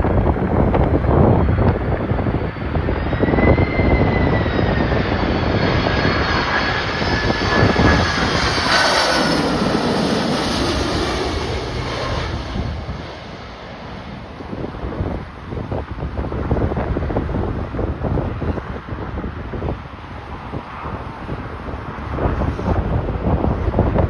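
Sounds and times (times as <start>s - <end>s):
jet engines passing low: 0.0s - 24.0s
wind buffeting microphone: 0.0s - 24.0s.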